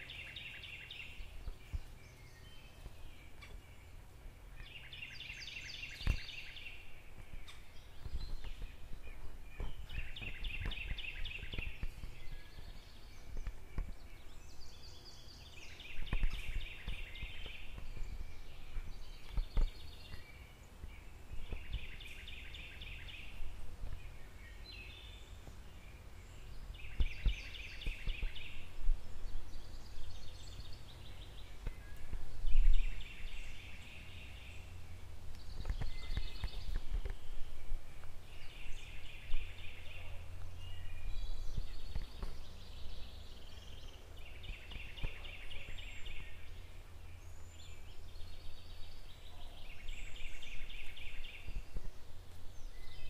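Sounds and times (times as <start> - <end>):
low outdoor rumble: 0.0 - 53.0
songbird singing: 0.0 - 53.0.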